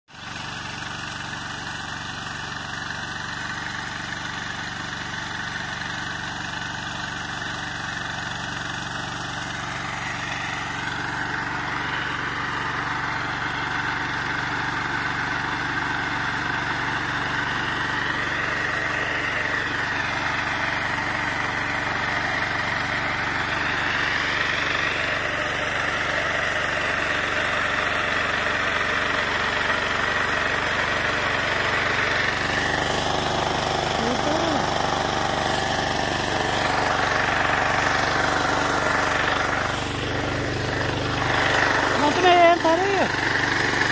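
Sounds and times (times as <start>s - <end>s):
tiller engine running: 0.1s - 43.9s.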